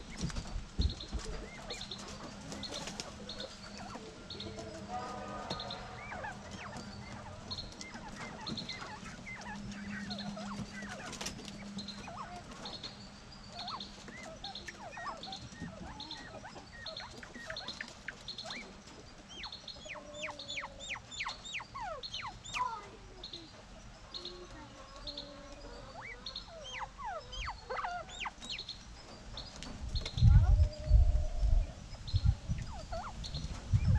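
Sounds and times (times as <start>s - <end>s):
quail chirping and peeping: 0.0s - 33.9s.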